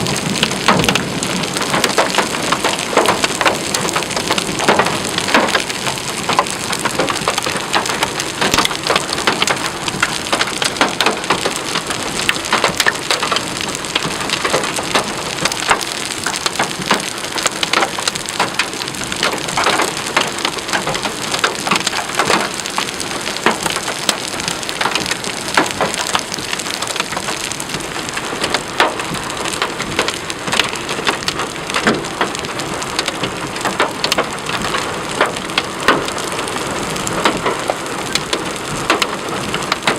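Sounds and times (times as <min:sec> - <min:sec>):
heavy rain pouring: 0:00.0 - 0:39.9
sharp rain hits: 0:00.0 - 0:39.9.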